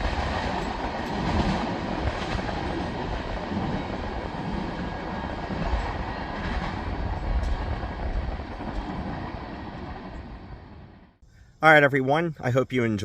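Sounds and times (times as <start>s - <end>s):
freight train rolling past: 0.0s - 11.2s.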